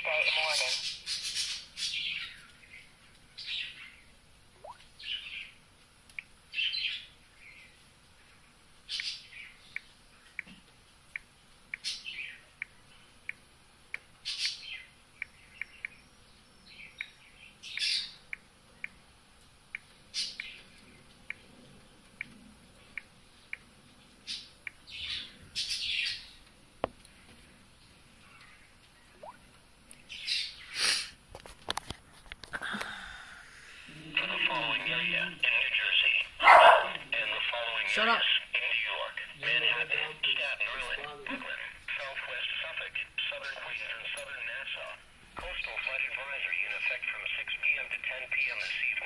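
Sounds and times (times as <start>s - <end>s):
birds chirping: 0.0s - 5.6s, 6.5s - 10.5s, 11.1s - 19.0s, 19.7s - 30.8s, 33.1s - 49.0s.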